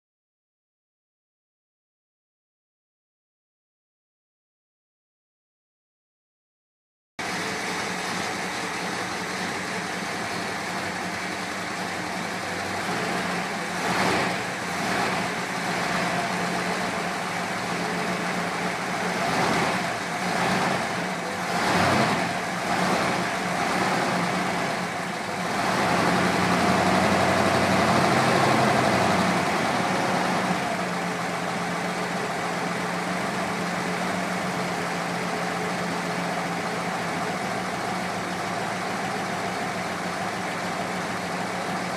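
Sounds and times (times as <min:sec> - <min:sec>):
car engine idling and revving: 0:07.2 - 0:41.9.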